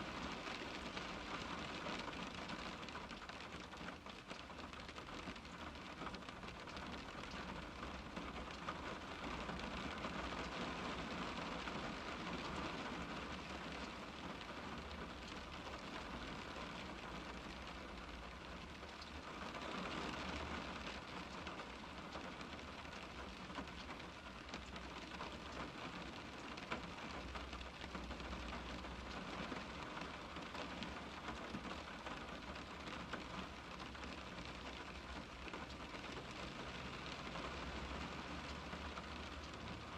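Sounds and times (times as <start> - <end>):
rain pattering on glass: 0.0 - 39.9.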